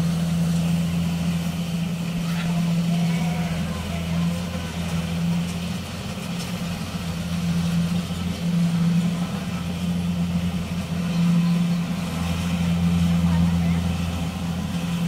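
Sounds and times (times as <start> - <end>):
combine harvester engine hum: 0.0 - 15.0.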